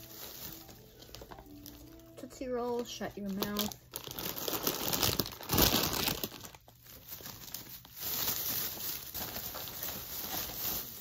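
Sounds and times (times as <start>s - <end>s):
plastic bag and wrappers crinkling: 0.0s - 11.0s.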